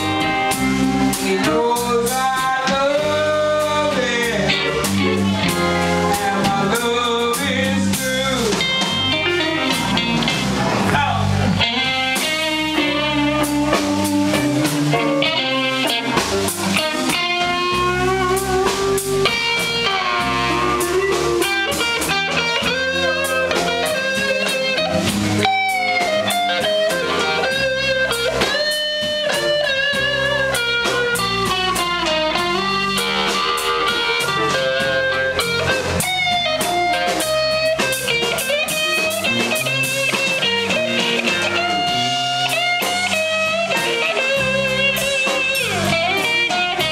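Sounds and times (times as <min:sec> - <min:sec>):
drum kit: 0:00.0 - 0:46.9
electric bass: 0:00.0 - 0:46.9
electric guitar bending notes: 0:00.0 - 0:46.9.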